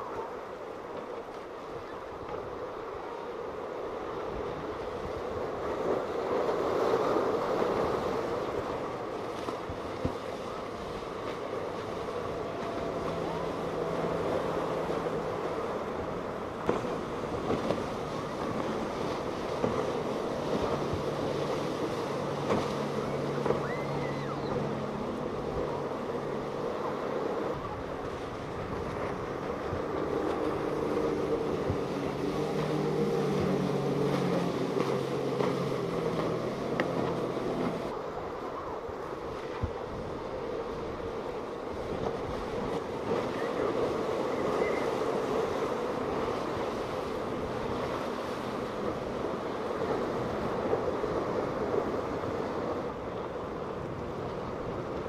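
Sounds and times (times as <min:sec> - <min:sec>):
outboard engines passing: 0:00.0 - 0:55.0
waves and wake wash: 0:00.0 - 0:55.0
wind on microphone: 0:00.0 - 0:55.0.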